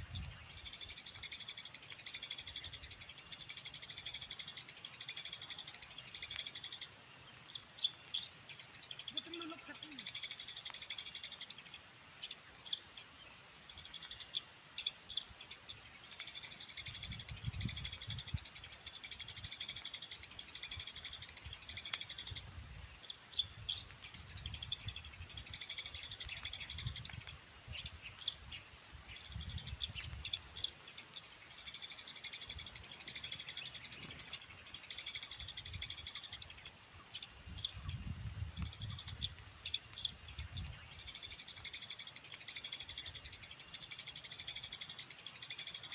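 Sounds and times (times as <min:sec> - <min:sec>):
sparrows chirping: 0:00.0 - 0:38.0.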